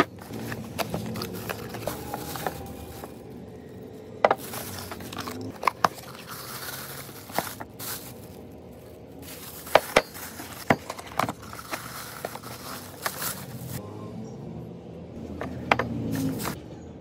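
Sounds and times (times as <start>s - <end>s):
cardboard and plastic rustling: 0.0s - 13.8s, 15.4s - 16.6s.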